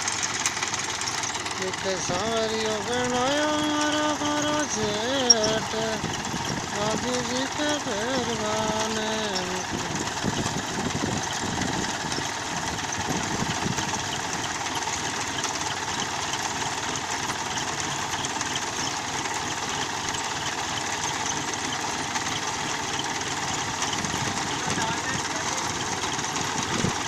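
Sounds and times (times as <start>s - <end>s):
harvester machinery running: 0.0s - 27.0s
tractor engine running: 0.0s - 27.0s.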